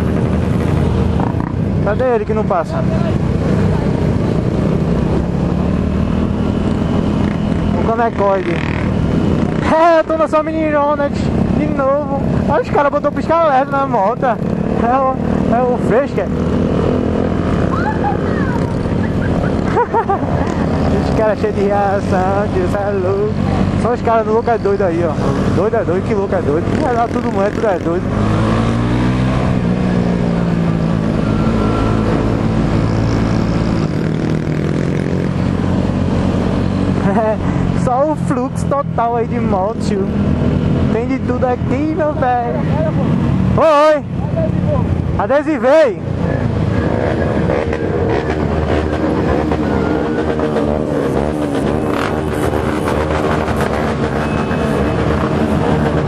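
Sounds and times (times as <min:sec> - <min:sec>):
street traffic: 0:00.0 - 0:56.0
vehicle engine running: 0:00.0 - 0:56.0.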